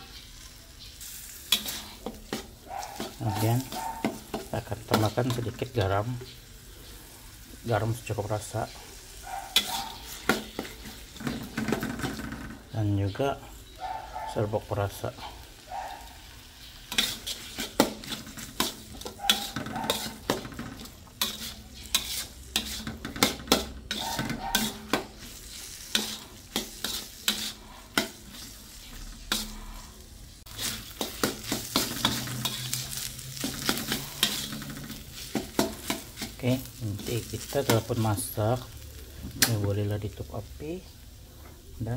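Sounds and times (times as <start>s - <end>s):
metal spatula scraping wok: 0.0s - 39.7s
light sizzle: 0.0s - 41.9s.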